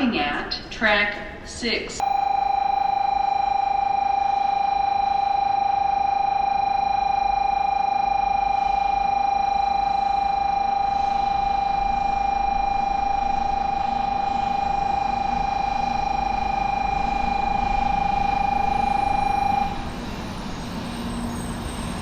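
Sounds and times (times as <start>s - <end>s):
pulsing platform warning buzzer: 2.0s - 22.0s.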